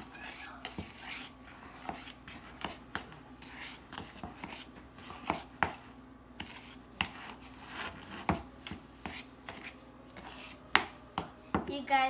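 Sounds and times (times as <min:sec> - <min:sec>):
spoon stirring stiff dough: 0:00.0 - 0:11.8.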